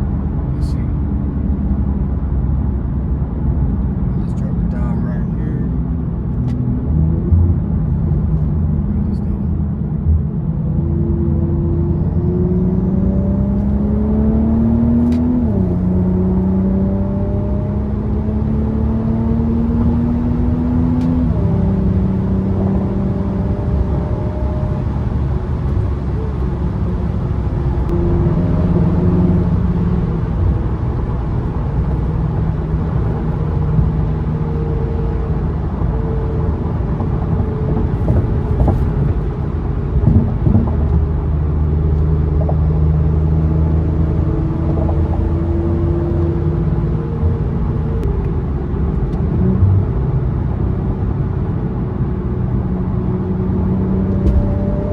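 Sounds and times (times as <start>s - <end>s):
car engine accelerating through gears: 0.0s - 54.9s
low road rumble: 0.0s - 54.9s.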